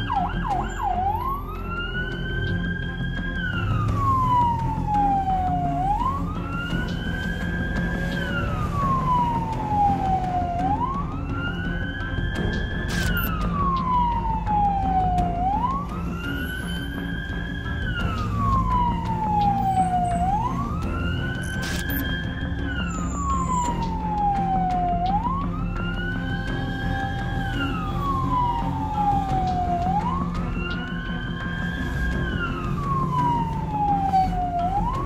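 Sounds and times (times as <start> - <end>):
ambulance siren wailing: 0.0 - 35.0
engine and road rumble: 0.0 - 35.0.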